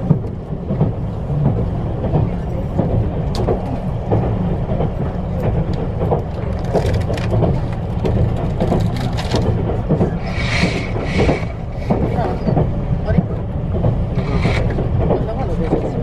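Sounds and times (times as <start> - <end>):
vehicle interior rumble: 0.0 - 16.0.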